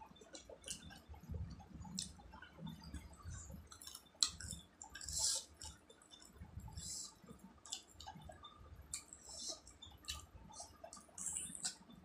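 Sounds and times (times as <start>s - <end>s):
wet chewing with mouth clicks: 0.2s - 1.0s, 1.8s - 12.0s.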